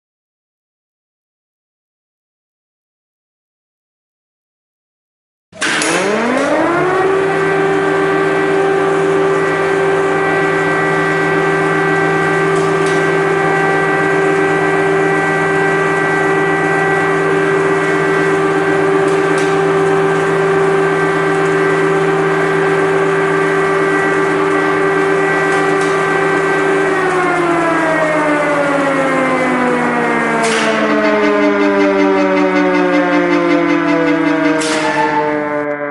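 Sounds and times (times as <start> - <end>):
air-raid siren wailing: 5.6 - 35.9.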